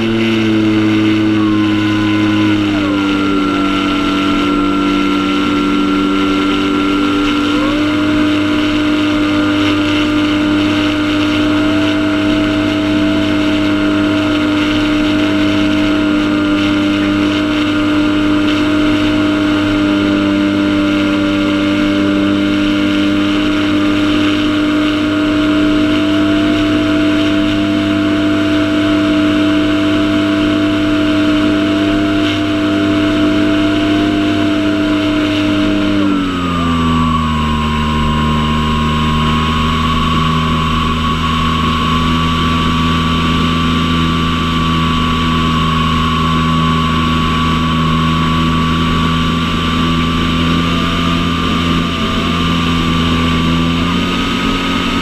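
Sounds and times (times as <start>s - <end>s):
model airplane motor and propeller: 0.0s - 55.0s.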